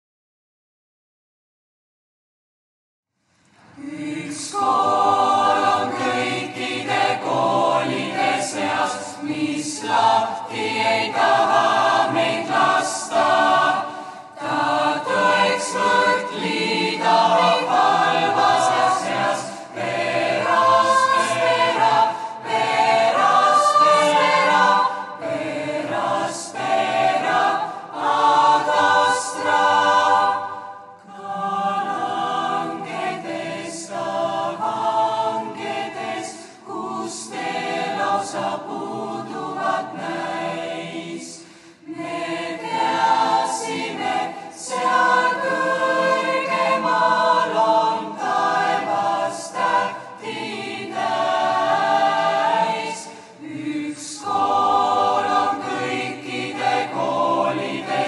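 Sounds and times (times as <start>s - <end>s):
children's choir singing: 3.7s - 58.0s.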